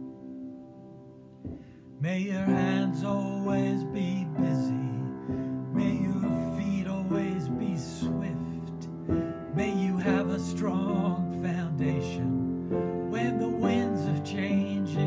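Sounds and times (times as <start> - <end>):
man singing slow song: 2.0 - 15.0.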